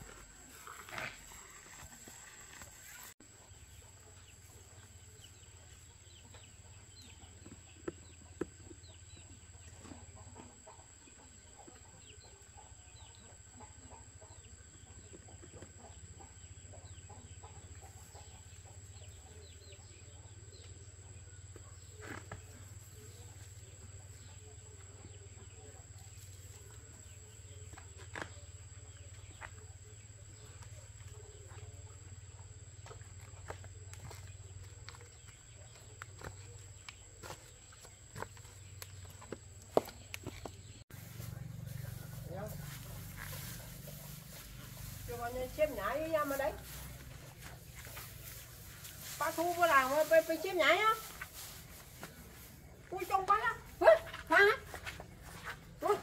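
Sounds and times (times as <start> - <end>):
bird chirps and clucking: 0.5 - 50.2.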